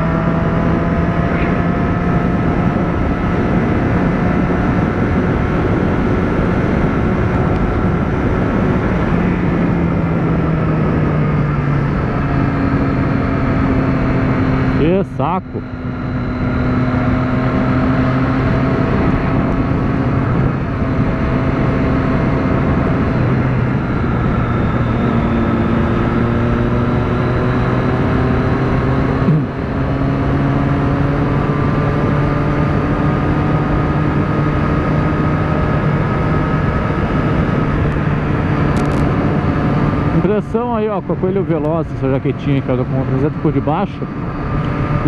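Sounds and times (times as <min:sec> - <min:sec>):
motorcycle engine running: 0:00.0 - 0:45.0
wind rush on microphone: 0:00.0 - 0:45.0.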